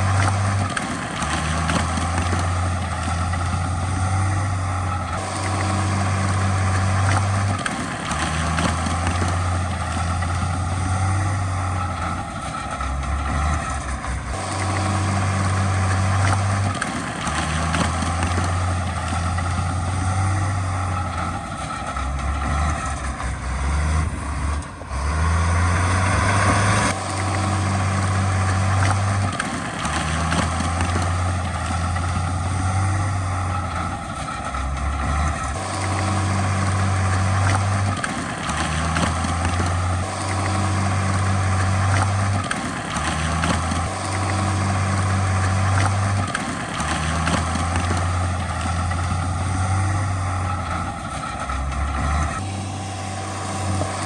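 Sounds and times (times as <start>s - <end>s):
heavy diesel machinery under load: 0.0s - 54.0s.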